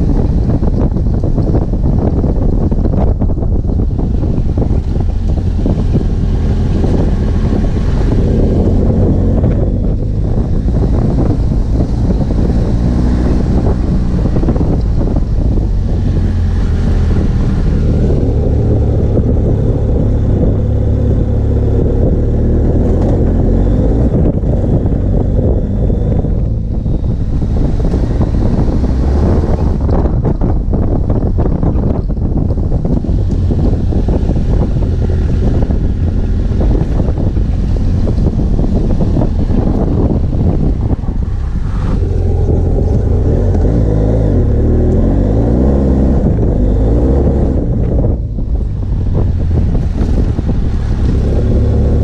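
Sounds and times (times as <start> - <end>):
motorcycle engine revving: 0.0 - 52.0
wind noise on microphone: 0.0 - 52.0.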